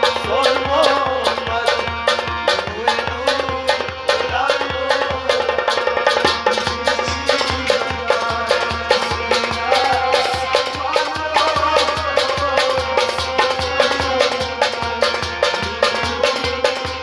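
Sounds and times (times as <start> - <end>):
goblet drum beaten by hand: 0.0 - 17.0
harmonium chords: 0.0 - 17.0
man singing: 0.0 - 17.0.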